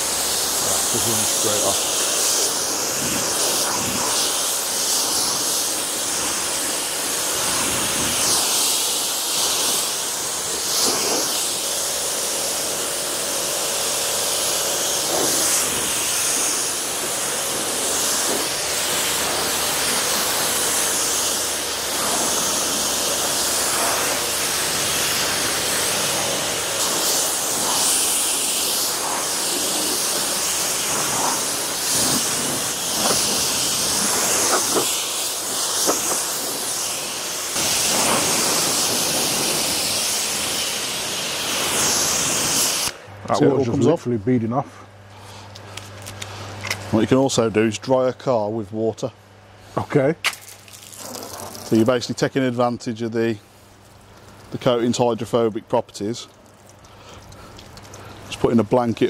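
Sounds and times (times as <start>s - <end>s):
water spray hissing on car: 0.0s - 43.0s, 50.3s - 59.0s.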